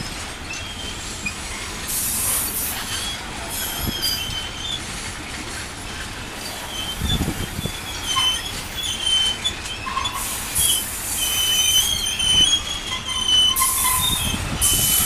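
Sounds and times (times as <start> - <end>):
train rumbling: 0.0 - 15.0
train wheels squealing: 0.4 - 4.9, 6.3 - 15.0.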